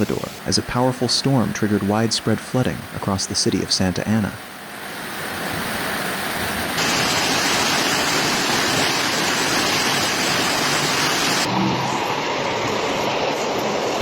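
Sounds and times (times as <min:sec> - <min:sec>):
rushing floodwater: 0:00.0 - 0:11.5
heavy storm rain: 0:00.0 - 0:14.0.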